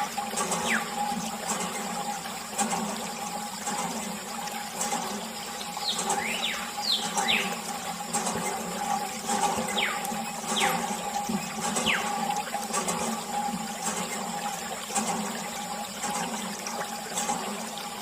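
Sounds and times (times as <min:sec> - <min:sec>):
water pump humming: 0:00.0 - 0:18.0
water spraying and splashing: 0:00.0 - 0:18.0.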